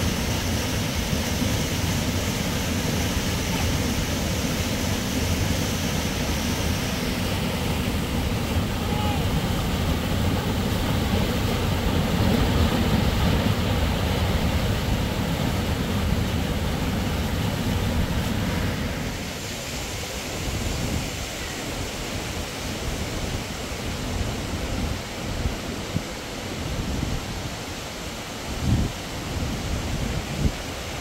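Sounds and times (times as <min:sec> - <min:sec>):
waterfall rushing: 0:00.0 - 0:26.6.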